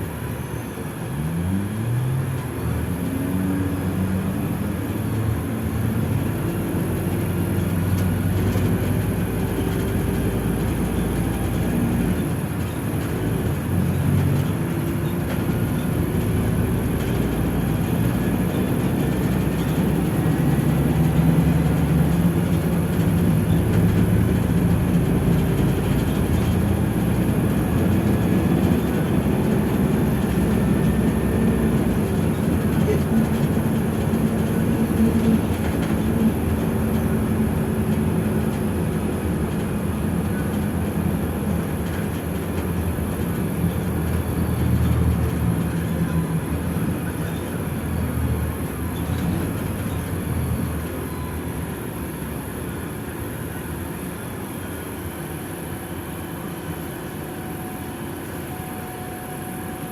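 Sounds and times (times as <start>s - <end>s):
bus engine drone: 0.0s - 59.9s
road and cabin noise: 0.0s - 59.9s.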